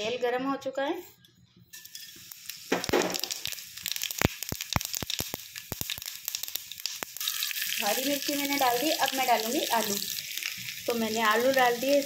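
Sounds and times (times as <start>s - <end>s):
seeds sizzling in hot oil: 1.7s - 12.0s.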